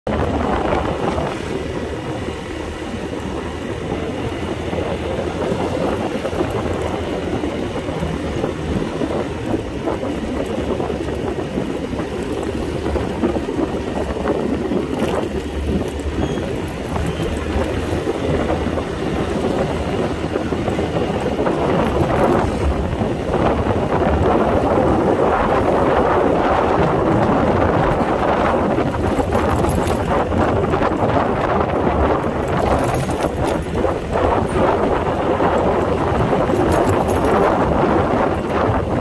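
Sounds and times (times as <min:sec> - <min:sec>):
scooter engine running: 0:00.1 - 0:39.0
tyre and road noise: 0:00.1 - 0:39.0.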